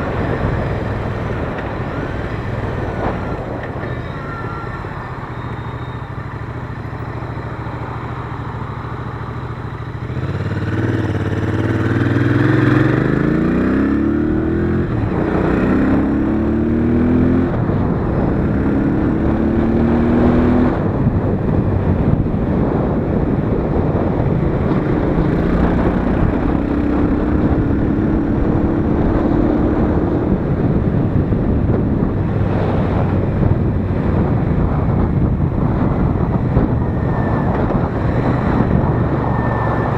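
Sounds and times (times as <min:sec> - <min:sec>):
wind rush on microphone: 0:00.0 - 0:05.6, 0:10.0 - 0:39.9
motorcycle engine accelerating: 0:06.3 - 0:39.9.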